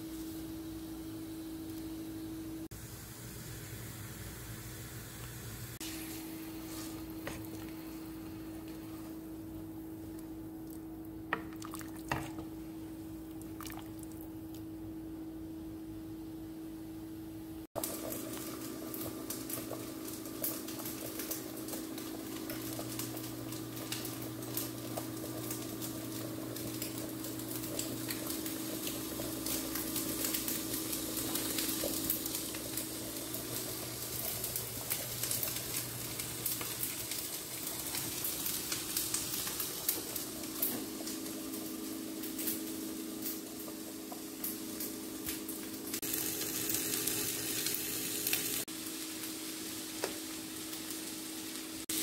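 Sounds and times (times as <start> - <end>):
food sizzling in a pan: 0.0 - 9.3, 17.7 - 52.0.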